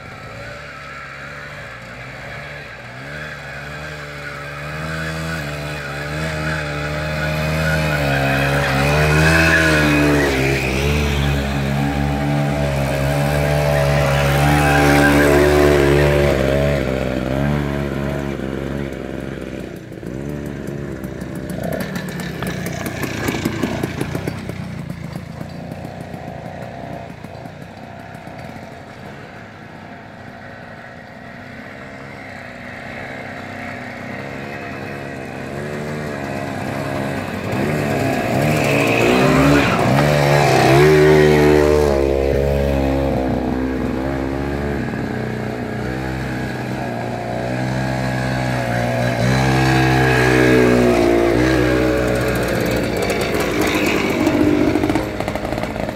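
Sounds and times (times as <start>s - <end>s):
off-road motorcycle engines revving: 0.0s - 55.9s.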